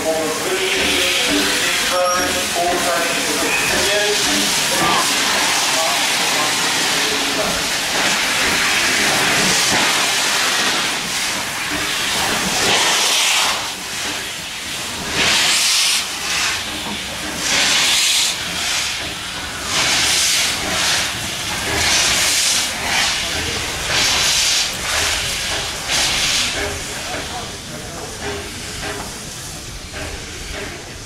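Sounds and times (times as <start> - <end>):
steam locomotive exhaust hissing: 0.0 - 31.0.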